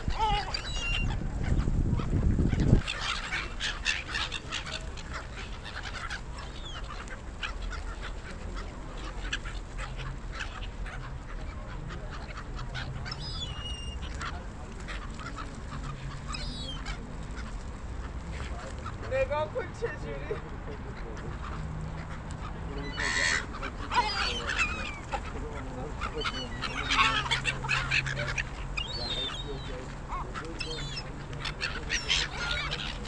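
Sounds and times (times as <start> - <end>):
gulls calling: 0.0 - 33.0.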